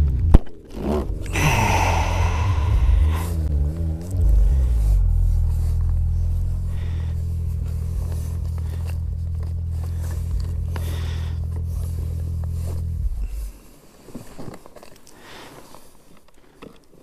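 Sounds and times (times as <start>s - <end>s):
snowmobile engine idling: 0.0s - 14.4s.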